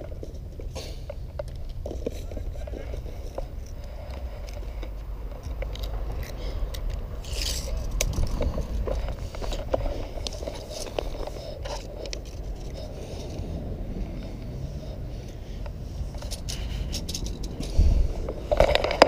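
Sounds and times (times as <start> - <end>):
low handling noise rumble: 0.0 - 19.0.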